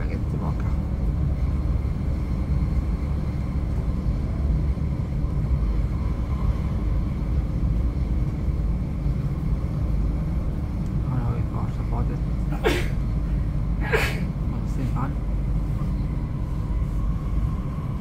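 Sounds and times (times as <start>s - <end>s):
train rumbling inside carriage: 0.0s - 18.0s.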